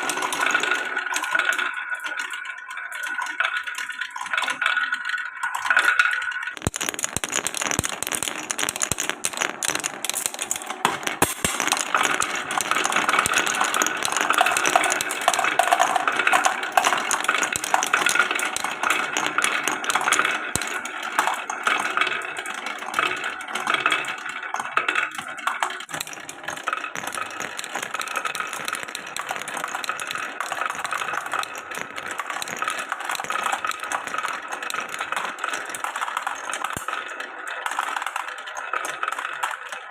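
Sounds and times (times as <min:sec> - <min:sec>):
marbles rolling down wooden run: 0:00.0 - 0:39.9.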